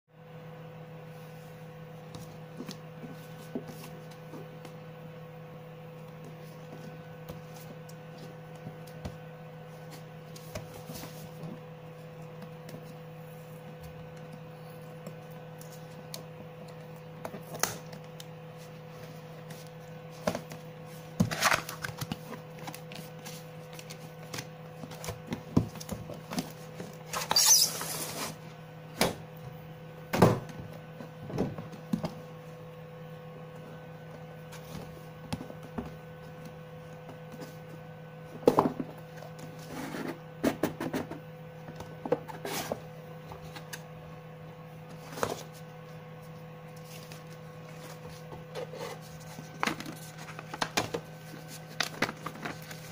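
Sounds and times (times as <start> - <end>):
steady low hum: 0.1 - 52.9.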